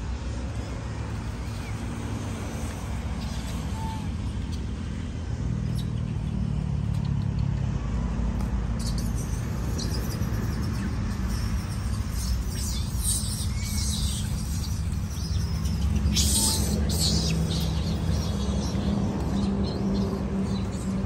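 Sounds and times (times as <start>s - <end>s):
birds chirping: 0.3s - 7.6s, 8.7s - 21.0s.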